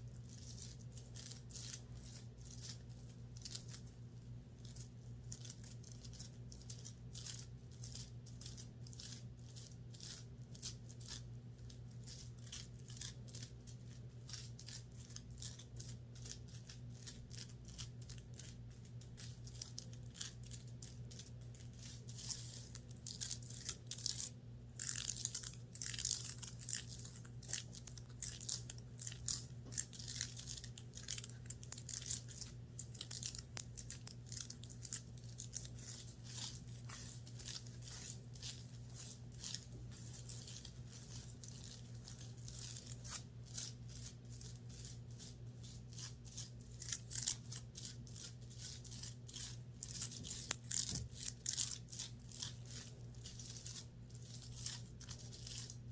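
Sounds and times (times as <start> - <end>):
scratching on fabric: 0.0 - 55.9
steady low hum: 0.0 - 55.9.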